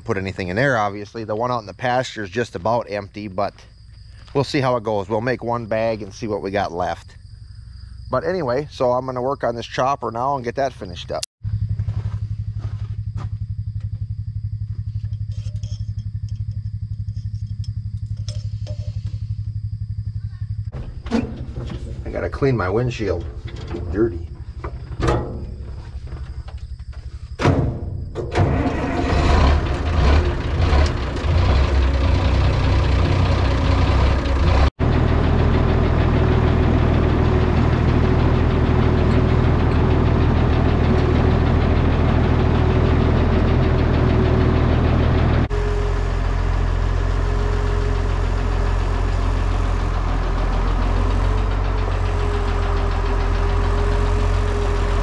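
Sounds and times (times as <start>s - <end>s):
tractor diesel engine starting: 0.0s - 3.5s, 14.3s - 55.0s.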